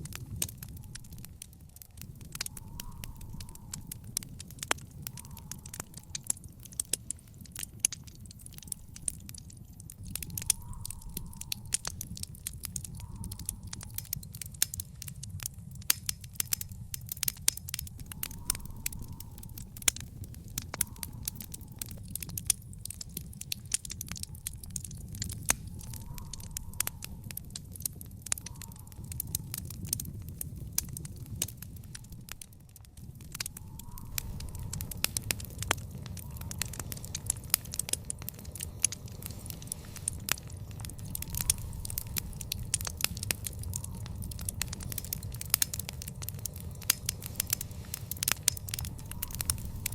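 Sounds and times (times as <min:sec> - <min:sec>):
sharp pops of fire: 0:00.0 - 0:49.9
wood fire crackling: 0:00.0 - 0:49.9.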